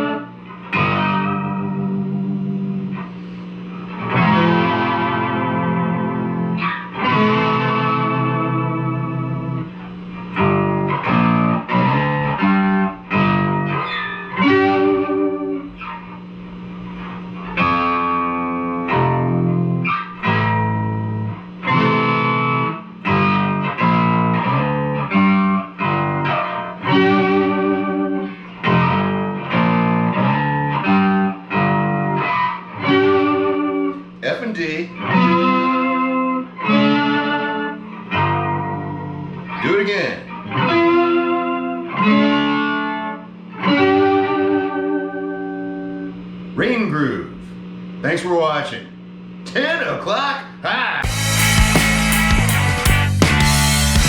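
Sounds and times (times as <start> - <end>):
guitar chords strummed: 0.0 - 46.7, 51.0 - 54.0.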